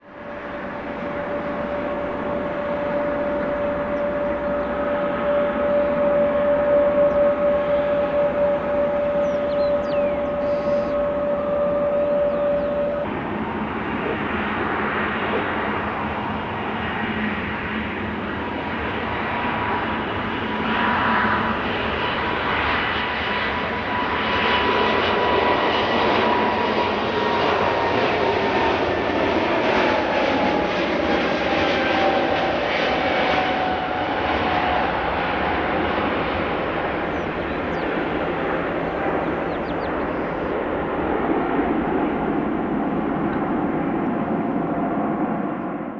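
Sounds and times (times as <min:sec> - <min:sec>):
jet engines roaring at takeoff: 0:00.0 - 0:27.6, 0:29.0 - 0:45.9.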